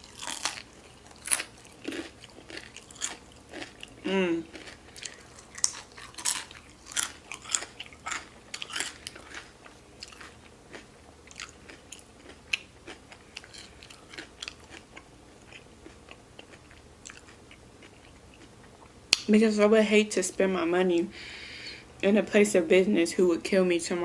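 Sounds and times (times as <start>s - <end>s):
chewing crisp food: 0.0s - 19.3s.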